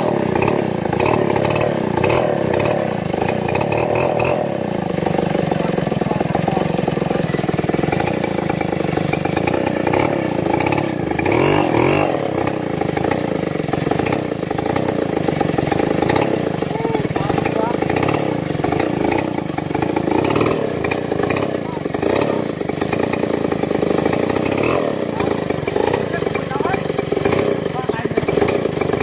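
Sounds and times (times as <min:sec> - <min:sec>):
engine running and revving: 0:00.0 - 0:29.0.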